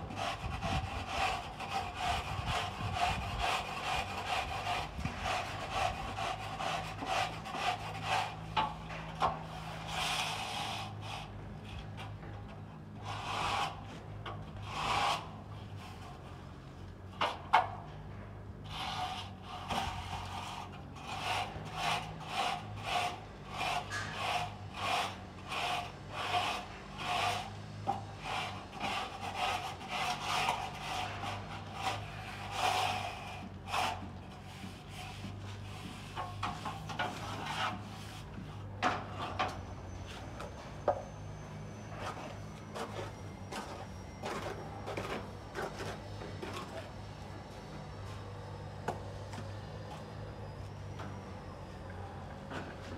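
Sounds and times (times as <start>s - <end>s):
float scraping cement render: 0.0s - 18.0s, 18.6s - 52.9s.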